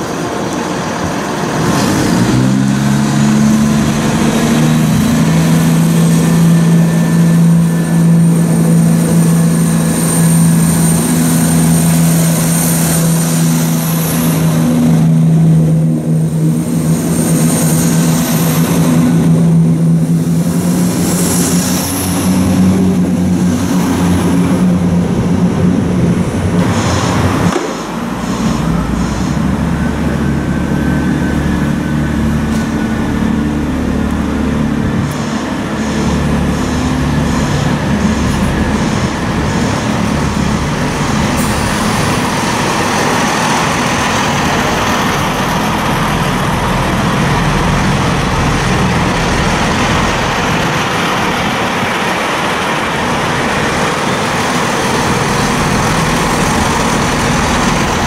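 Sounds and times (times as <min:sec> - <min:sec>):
diesel train engines throbbing: 0:00.0 - 0:58.0.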